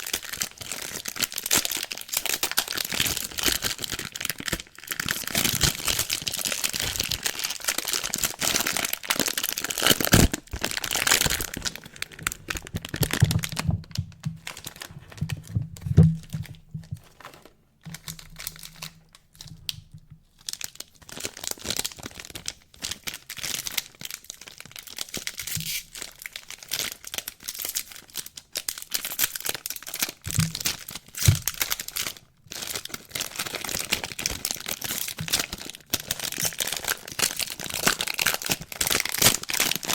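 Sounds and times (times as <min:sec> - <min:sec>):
wrapping crinkling and tearing: 0:00.0 - 0:39.9.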